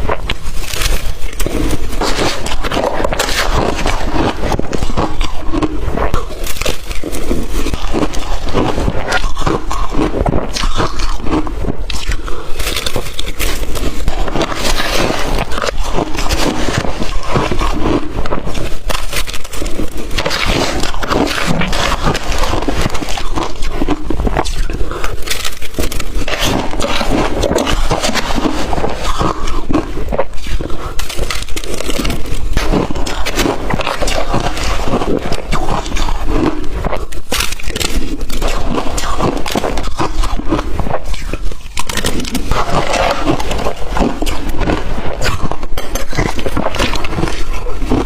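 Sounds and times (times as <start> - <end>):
crushed ice crunching: 0.0 - 48.0.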